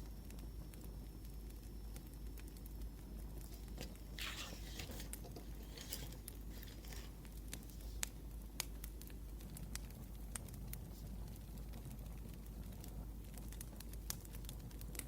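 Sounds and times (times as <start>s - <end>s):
wood fire popping: 0.0s - 15.0s.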